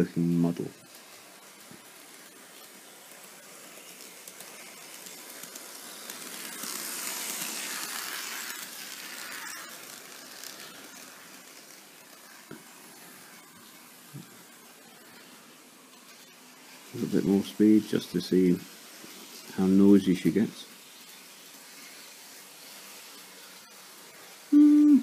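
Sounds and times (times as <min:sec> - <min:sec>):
model locomotive motor whir: 0:00.0 - 0:25.0.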